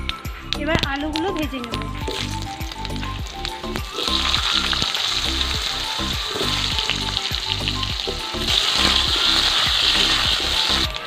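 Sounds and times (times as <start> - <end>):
potato wedges sizzling in oil: 0.0 - 11.0.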